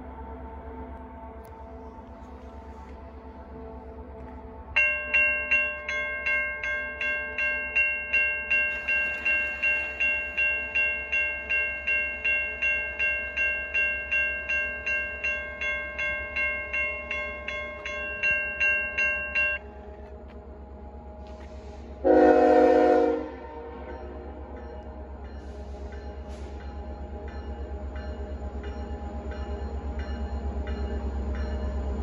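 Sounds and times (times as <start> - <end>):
crossing warning bell ringing: 4.5 - 21.4, 22.0 - 32.0.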